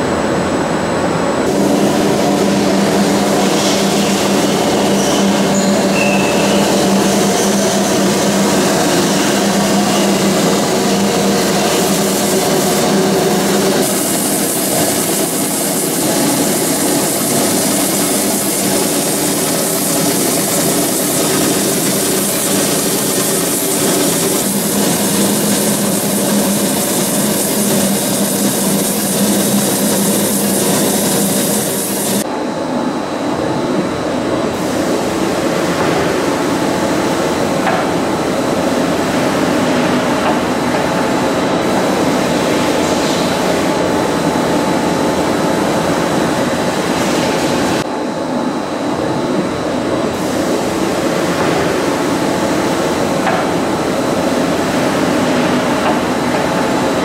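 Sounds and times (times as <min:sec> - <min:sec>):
machine motors humming: 0:01.4 - 0:47.8.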